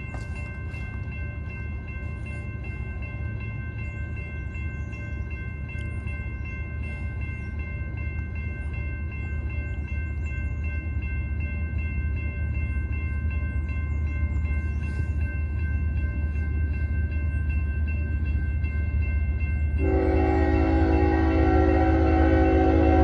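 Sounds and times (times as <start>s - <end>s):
freight train rumble: 0.0s - 23.0s
railroad crossing bell ringing: 0.0s - 23.0s.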